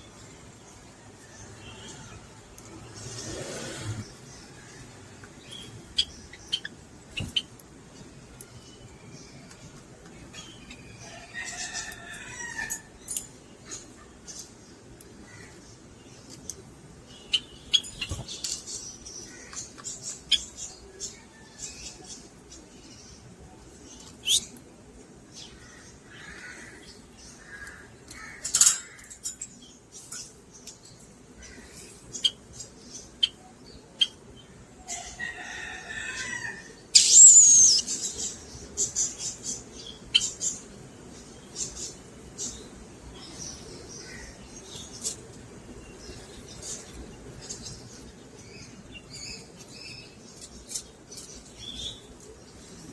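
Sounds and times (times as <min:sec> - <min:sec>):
lovebirds chirping: 0:00.0 - 0:52.9.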